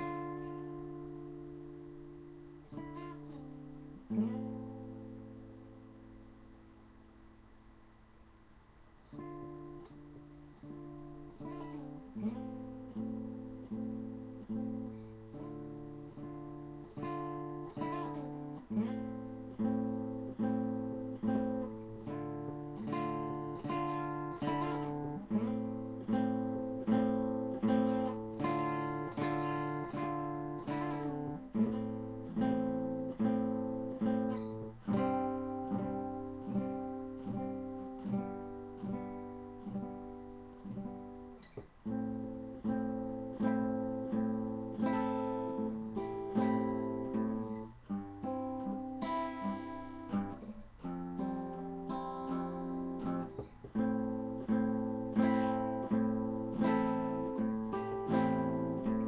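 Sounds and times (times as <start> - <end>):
acoustic guitar strumming: 0.0 - 6.6, 9.1 - 59.0.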